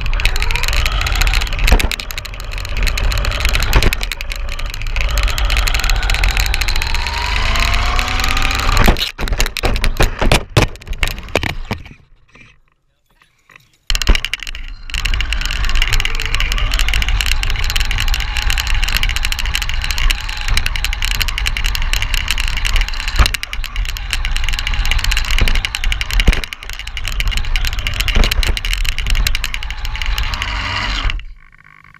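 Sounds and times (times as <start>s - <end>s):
rc car motor rushing: 0.0s - 10.4s, 13.9s - 31.9s
rc car knocking over bumps: 0.0s - 12.0s, 13.9s - 31.9s.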